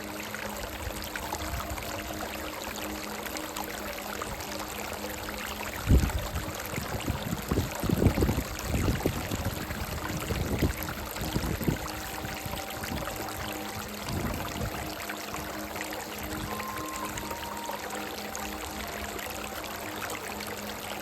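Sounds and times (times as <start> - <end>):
soft held melody: 0.0 - 21.0
water rushing over rocks: 0.0 - 21.0.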